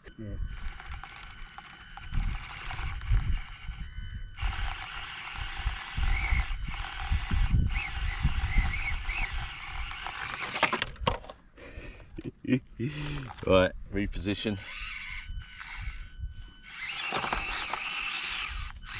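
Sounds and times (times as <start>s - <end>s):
toy car motor whining: 0.0s - 11.1s, 12.9s - 13.5s, 14.2s - 18.9s.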